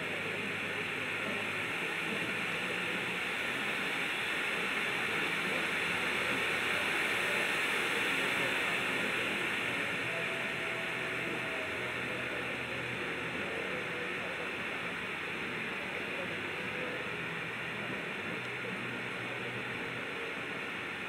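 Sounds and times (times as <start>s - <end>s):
firework fountain hissing: 0.0s - 21.0s.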